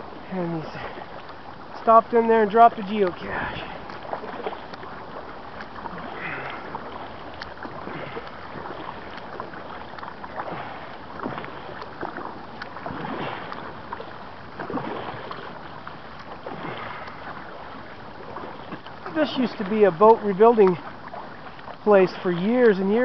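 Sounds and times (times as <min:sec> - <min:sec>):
moving water wash: 0:00.0 - 0:23.0
paddle strokes splashing in water: 0:00.0 - 0:23.0.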